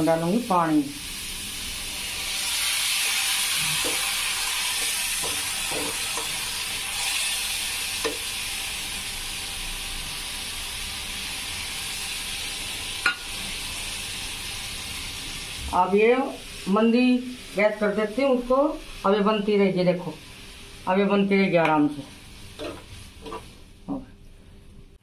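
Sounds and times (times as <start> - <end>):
food sizzling in a frying pan: 0.0 - 23.9.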